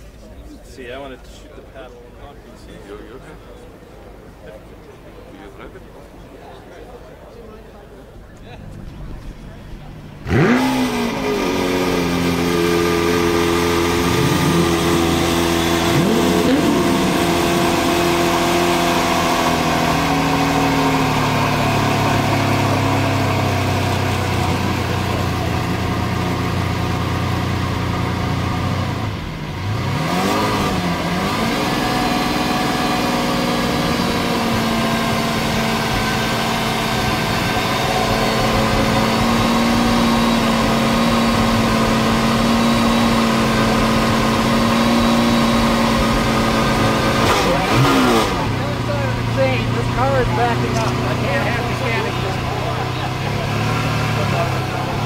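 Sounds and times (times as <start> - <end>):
car engine idling and revving: 8.5 - 55.0.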